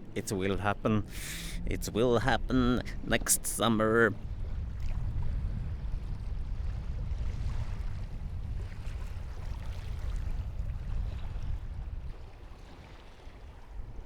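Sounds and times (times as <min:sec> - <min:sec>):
water washing along hull: 0:00.0 - 0:14.0
wind buffeting microphone: 0:00.0 - 0:14.0.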